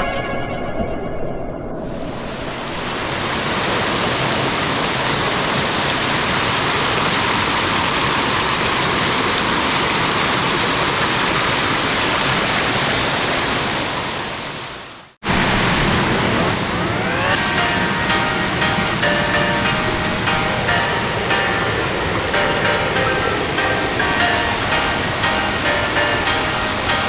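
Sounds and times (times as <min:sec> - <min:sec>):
mountain stream rushing: 0:02.5 - 0:27.0.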